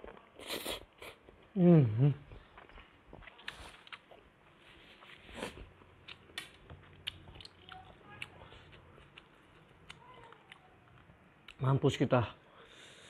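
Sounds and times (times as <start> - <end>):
faint chewing: 0.0 - 11.6.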